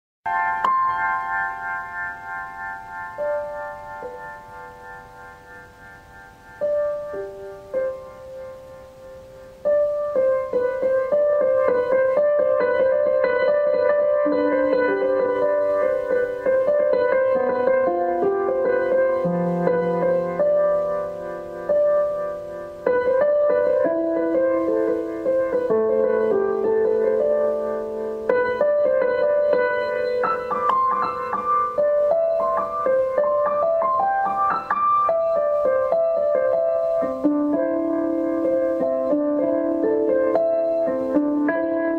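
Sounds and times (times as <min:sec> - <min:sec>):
slow piano music: 0:00.3 - 0:41.9.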